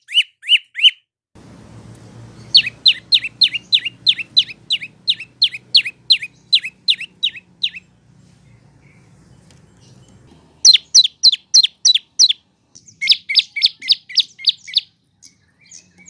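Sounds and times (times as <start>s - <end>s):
bird chirping: 0.0s - 1.0s, 1.6s - 16.0s
faint low hum: 1.4s - 16.0s.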